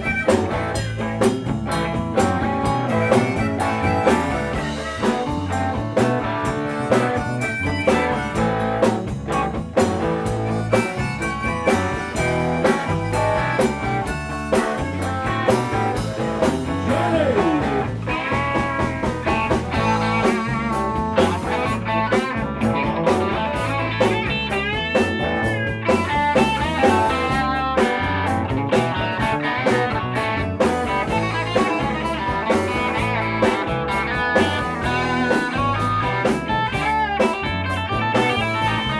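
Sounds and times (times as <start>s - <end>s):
blues rock band playing: 0.0s - 38.9s
electric guitar bending notes: 0.0s - 38.9s.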